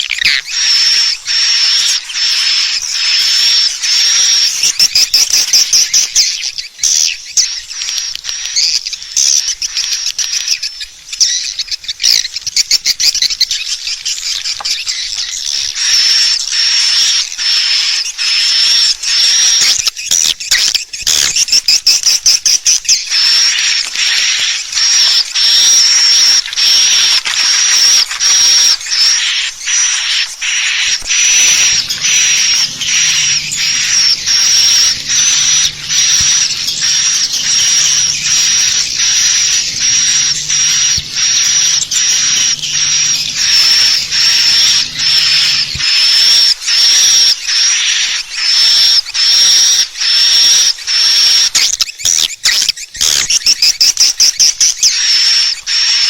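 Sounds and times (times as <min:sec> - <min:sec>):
swiftlets twittering chirps: 0:00.0 - 0:56.0.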